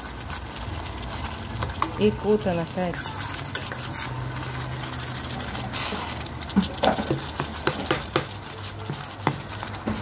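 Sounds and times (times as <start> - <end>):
ladle stirring: 0.0 - 10.0
pot bubbling at the boil: 0.0 - 10.0.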